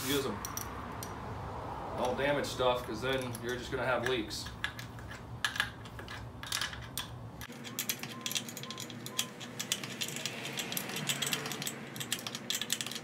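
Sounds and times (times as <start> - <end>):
ratchet wrench clicking: 0.4 - 1.2, 3.0 - 13.0.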